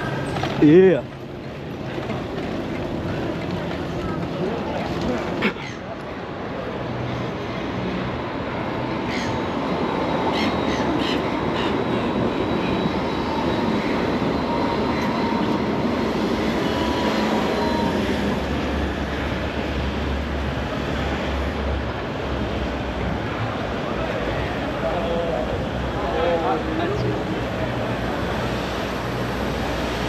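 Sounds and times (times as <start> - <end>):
tram running on tracks: 0.0 - 30.0.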